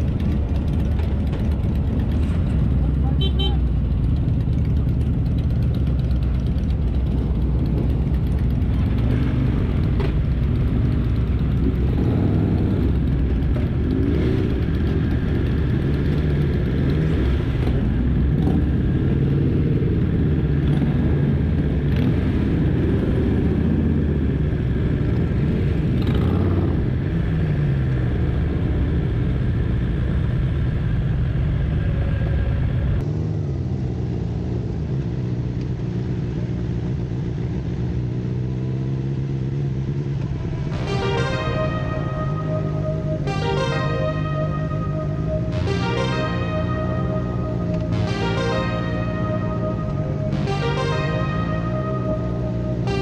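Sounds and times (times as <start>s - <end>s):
motorcycle engines idling and revving: 0.0s - 53.0s.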